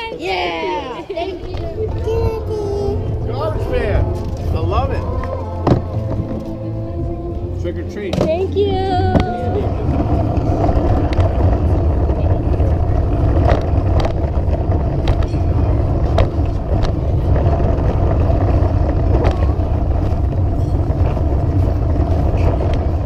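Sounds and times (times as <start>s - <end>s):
loud low rumble: 1.3s - 23.0s.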